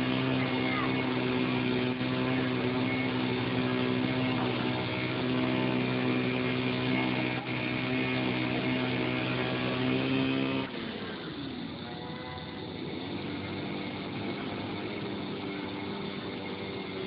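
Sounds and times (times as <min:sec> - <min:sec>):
small electric motor and propeller droning: 0:00.0 - 0:17.0.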